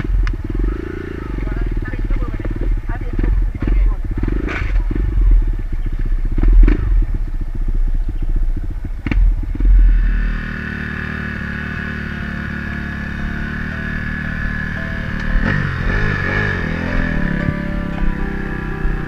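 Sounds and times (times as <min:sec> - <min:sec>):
dirt bike engine under throttle: 0:00.0 - 0:19.0.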